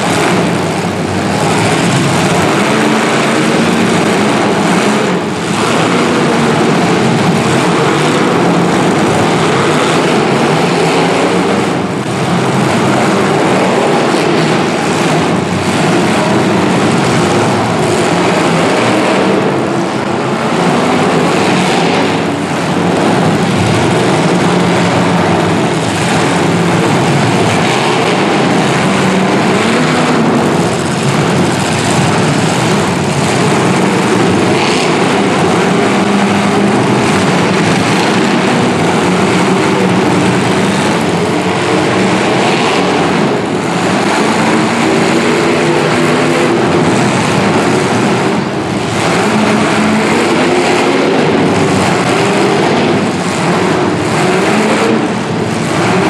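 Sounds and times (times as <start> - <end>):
car engines revving together: 0.0 - 56.0.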